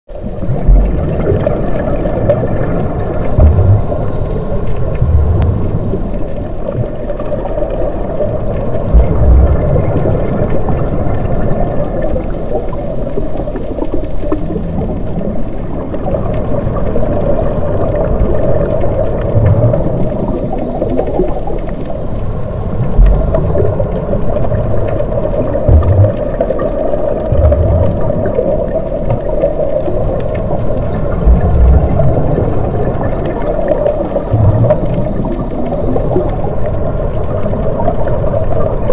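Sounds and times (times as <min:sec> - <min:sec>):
deep low underwater bursts: 0:00.1 - 0:38.9
underwater regulator bubbles gurgling: 0:00.1 - 0:38.9.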